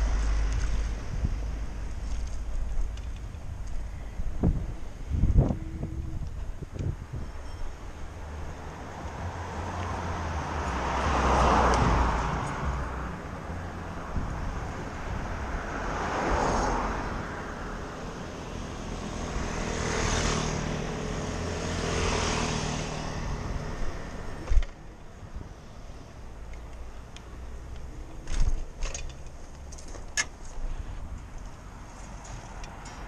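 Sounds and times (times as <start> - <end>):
cars passing: 0.0 - 33.0
wind and road noise rumble: 0.0 - 33.0.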